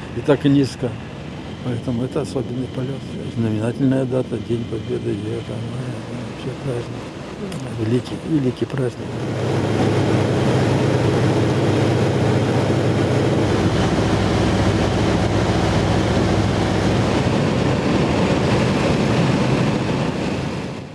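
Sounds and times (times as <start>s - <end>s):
deep rumble: 0.0s - 20.2s
aircraft engines droning: 0.0s - 20.9s.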